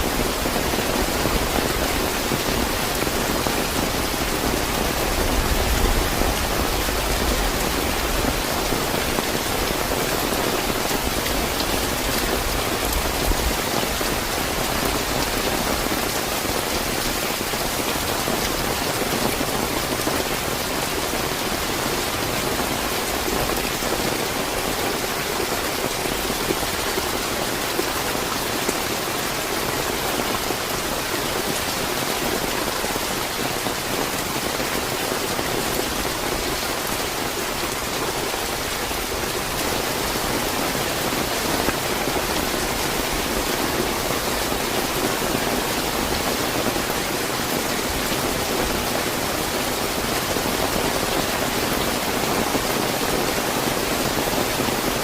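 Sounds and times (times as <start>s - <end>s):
heavy rain hiss: 0.0s - 55.0s.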